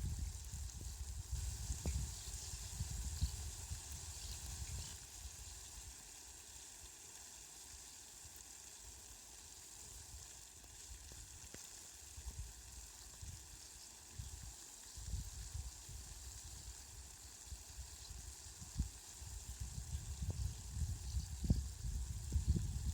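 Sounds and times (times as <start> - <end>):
rain hissing: 0.0 - 22.9.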